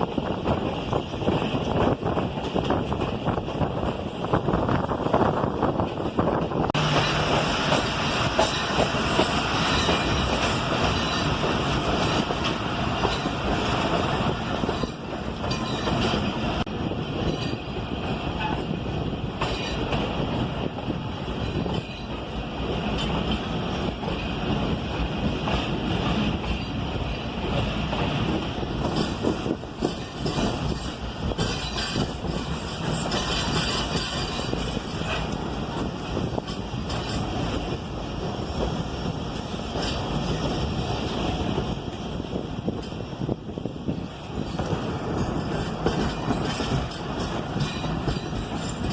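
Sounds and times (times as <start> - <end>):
train wheels on rails: 0.0 - 48.9.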